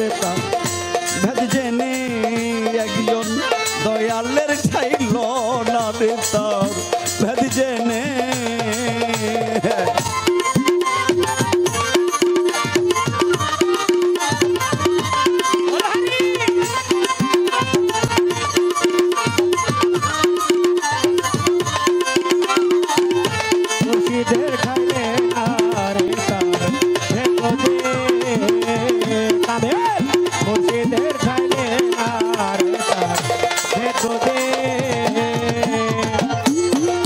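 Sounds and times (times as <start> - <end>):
fast hand-drum strokes: 0.0 - 37.0.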